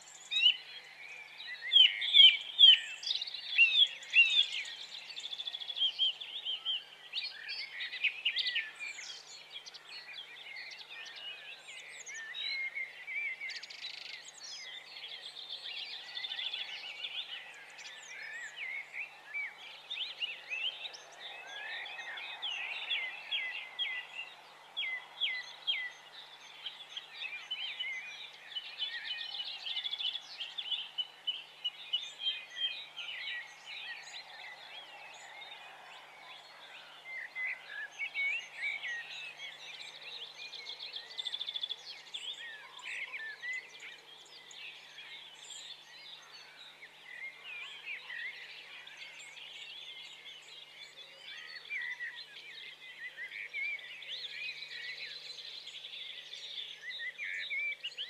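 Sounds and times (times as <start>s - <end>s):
small birds twittering: 0.0s - 58.0s.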